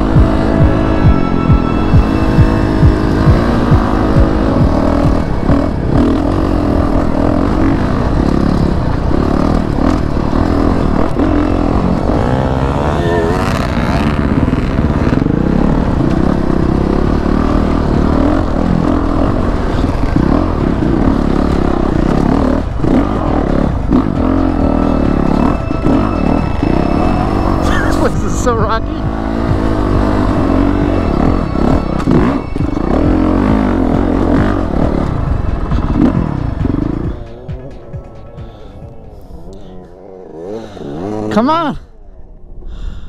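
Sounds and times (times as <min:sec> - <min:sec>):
dirt bike passing with rev: 0:00.0 - 0:42.6
dirt bike engine: 0:00.0 - 0:43.0.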